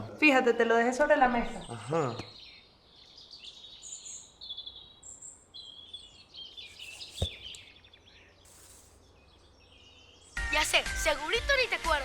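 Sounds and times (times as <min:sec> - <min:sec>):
small birds chirping: 0:00.9 - 0:11.5.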